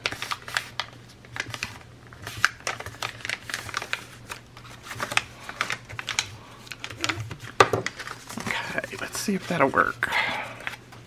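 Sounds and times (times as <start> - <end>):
paper crunching and crackling: 0.0 - 11.0.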